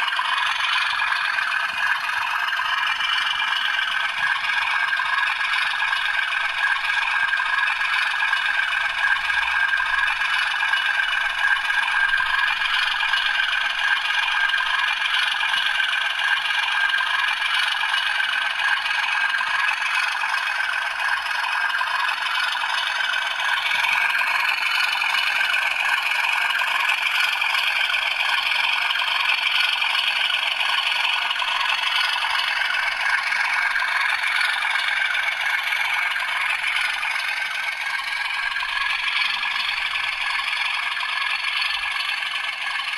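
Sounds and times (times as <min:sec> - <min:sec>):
diesel engine sound through small speaker: 0:00.0 - 0:42.9.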